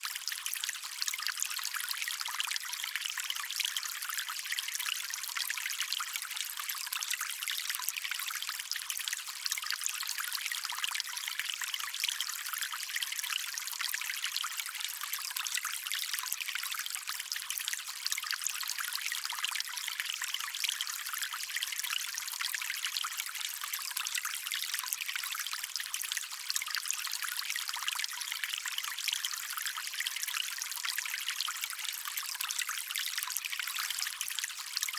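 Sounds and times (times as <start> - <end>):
stream trickling over stones: 0.0 - 34.9.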